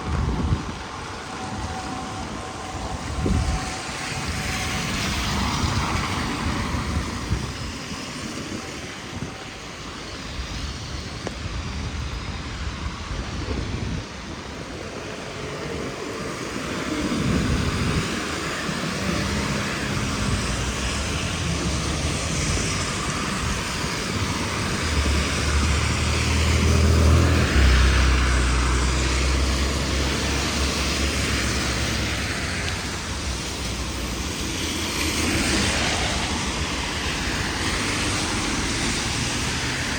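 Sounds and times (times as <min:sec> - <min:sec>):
heavy rain hissing: 0:00.0 - 0:39.9
passing vehicle rumble: 0:00.0 - 0:39.9.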